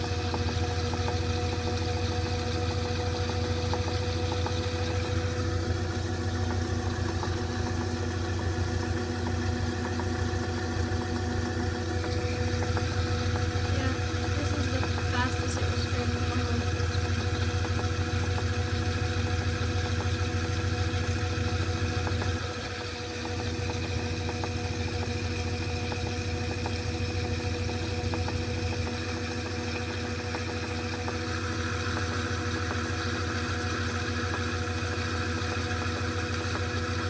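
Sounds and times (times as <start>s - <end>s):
washing machine spinning: 0.0s - 37.0s.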